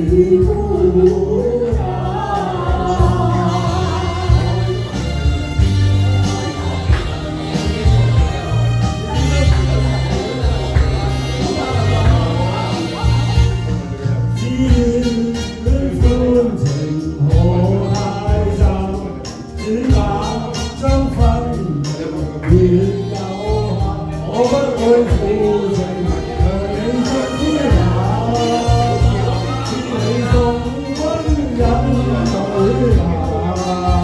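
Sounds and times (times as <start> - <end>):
man singing into microphone: 0.0 - 34.0
music backing track with bass: 0.0 - 34.0.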